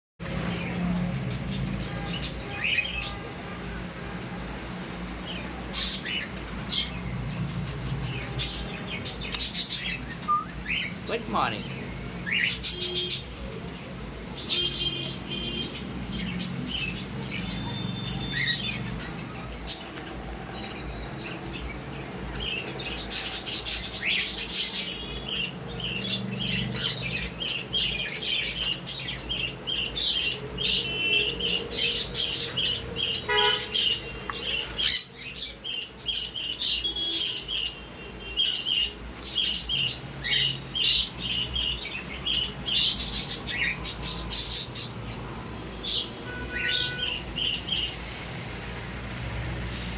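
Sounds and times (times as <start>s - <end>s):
parrots chirping and squawking: 5.7s - 13.4s, 14.4s - 48.8s.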